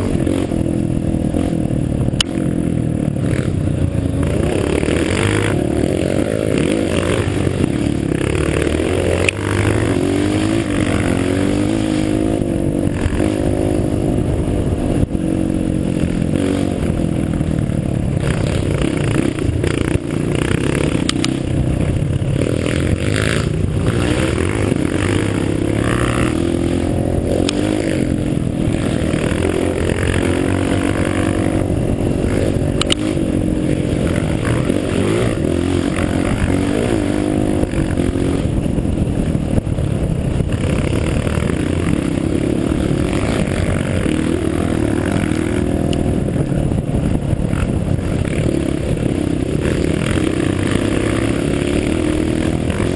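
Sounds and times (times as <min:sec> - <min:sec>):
off-road vehicle engine revving: 0:00.0 - 0:52.9.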